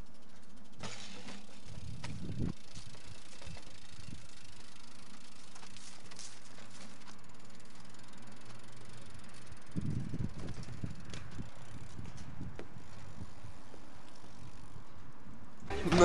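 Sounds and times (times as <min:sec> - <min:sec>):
bike rattling and scuffing: 0:00.0 - 0:16.0.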